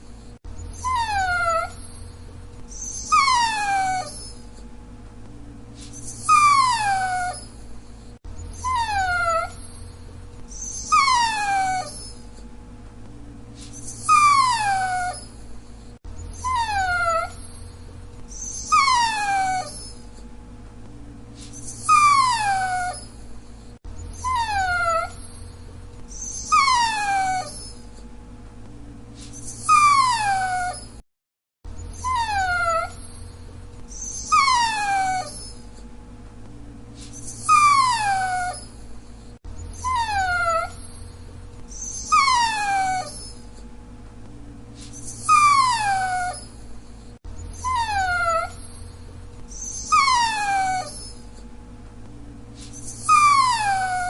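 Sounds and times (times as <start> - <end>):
dog whining: 0.0 - 4.7, 5.8 - 12.5, 13.6 - 20.3, 21.4 - 28.1, 29.2 - 31.0, 31.7 - 35.9, 37.0 - 43.7, 44.8 - 51.5, 52.6 - 54.0.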